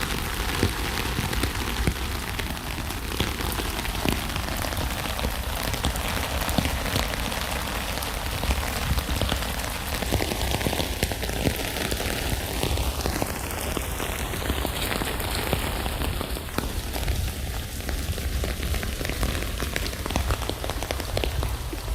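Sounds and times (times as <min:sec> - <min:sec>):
rain falling on a tent: 0:00.0 - 0:21.9.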